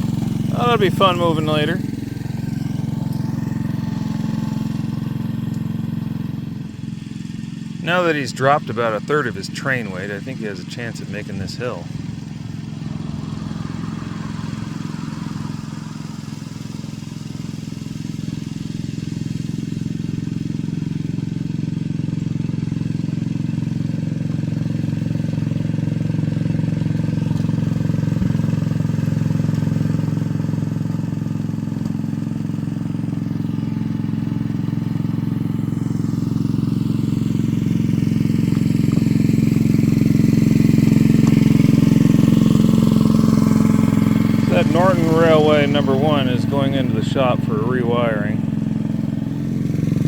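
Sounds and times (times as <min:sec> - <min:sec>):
small locomotive engine running: 0:00.0 - 0:50.0.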